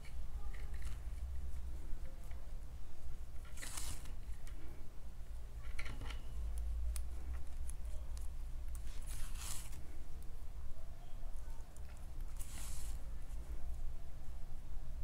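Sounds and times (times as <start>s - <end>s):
yarn rustling through fabric: 0.0s - 5.4s, 6.2s - 10.5s, 11.4s - 14.4s
steady low hum: 0.0s - 15.0s.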